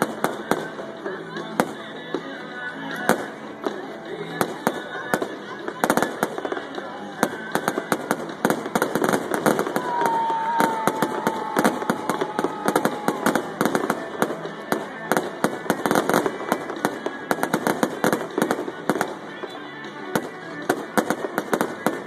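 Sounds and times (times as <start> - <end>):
fireworks bursting with crackles: 0.0 - 22.0.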